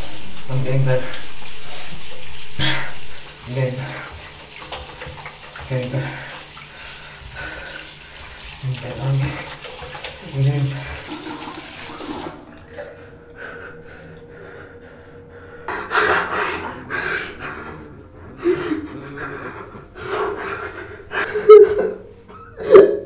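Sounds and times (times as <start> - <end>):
faint steady hum: 0.0 - 22.4.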